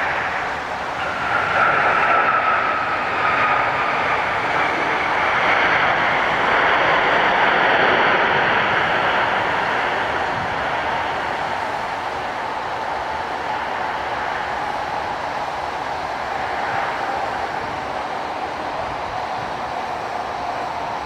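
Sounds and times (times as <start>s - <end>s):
jet engine rush: 0.0s - 21.0s
jet engine whine: 0.0s - 21.0s.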